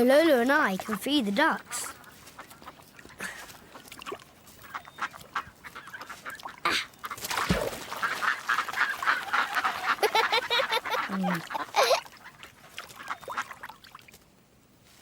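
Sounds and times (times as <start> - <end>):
ducks quacking: 0.6 - 13.8.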